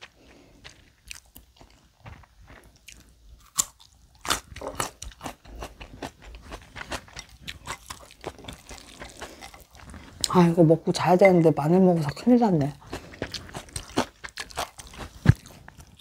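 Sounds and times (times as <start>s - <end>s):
chewing raw garlic crunches: 0.0s - 10.5s, 12.2s - 16.0s.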